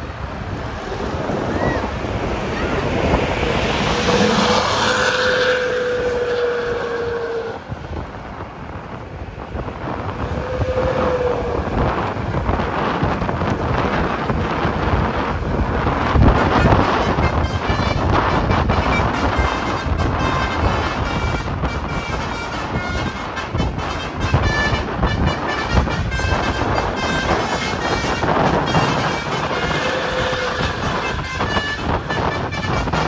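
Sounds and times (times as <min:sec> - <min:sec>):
moving vehicle noise: 0:00.0 - 0:33.0
wind on microphone: 0:00.0 - 0:33.0.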